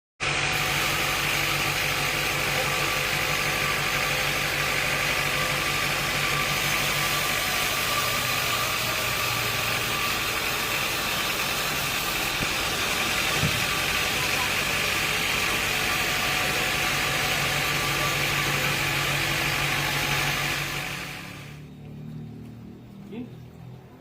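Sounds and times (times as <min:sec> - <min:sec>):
sawmill machinery hum: 0:00.2 - 0:22.8
high machine whine: 0:00.2 - 0:22.9.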